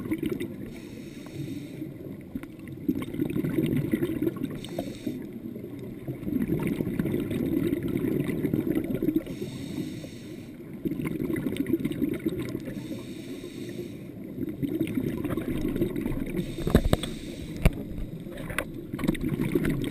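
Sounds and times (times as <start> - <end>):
regulator bubbles muffled underwater: 0.0 - 19.9.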